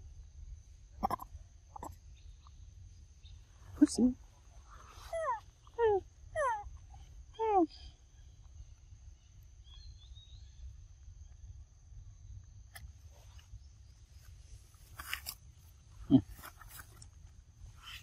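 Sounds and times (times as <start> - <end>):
low background rumble: 0.0 - 17.9
rustle: 1.0 - 11.5, 12.2 - 18.0.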